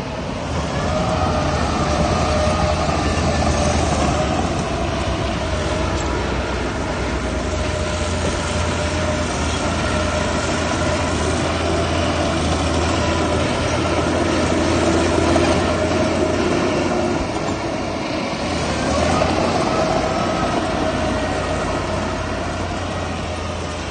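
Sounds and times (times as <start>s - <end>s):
heavy machinery engine running: 0.0s - 23.9s.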